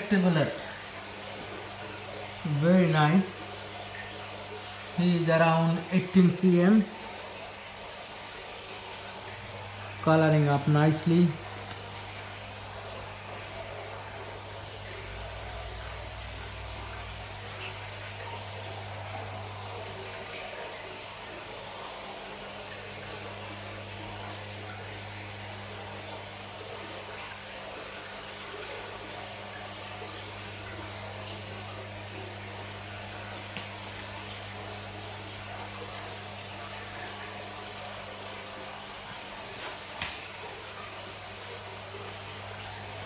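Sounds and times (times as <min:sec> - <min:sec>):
water rushing in aquarium filter: 0:00.0 - 0:43.0.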